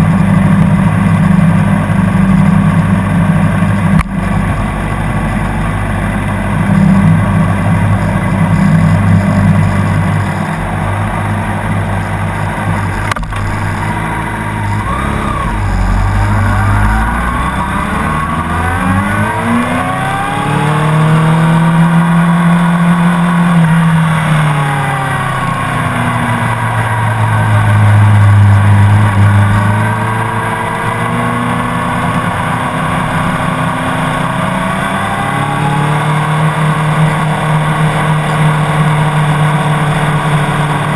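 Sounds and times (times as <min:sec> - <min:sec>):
motorcycle engine at racing speed: 0:00.0 - 0:40.9.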